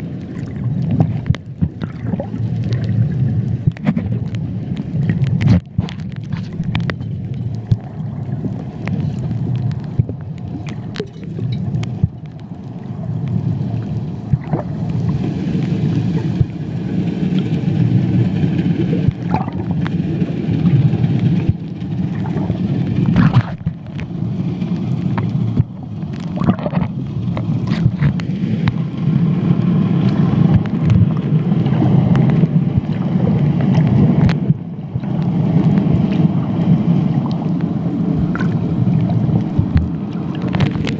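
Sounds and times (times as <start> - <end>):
muffled underwater rumble: 0.0 - 40.9
sharp clicks and crackles: 0.0 - 40.9.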